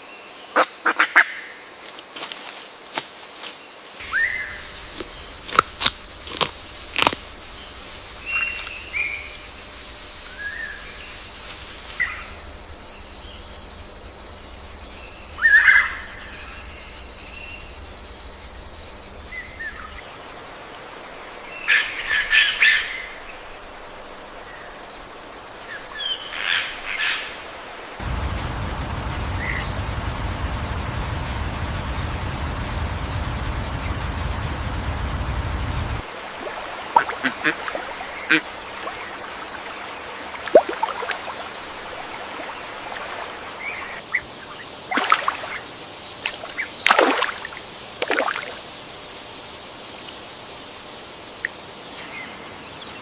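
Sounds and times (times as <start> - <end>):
birds chirping: 4.0 - 23.7, 24.4 - 48.5.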